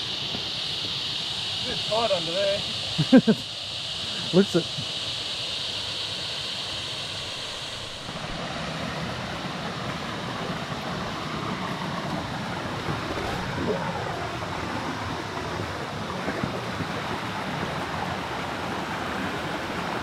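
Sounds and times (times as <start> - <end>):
creek water running over rocks: 0.0 - 20.0
high insect drone: 0.0 - 20.0.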